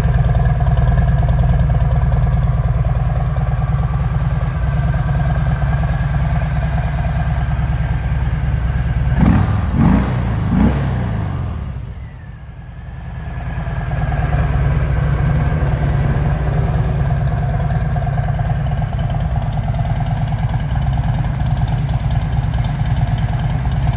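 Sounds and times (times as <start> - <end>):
motorcycle engine idling and revving: 0.0 - 23.9.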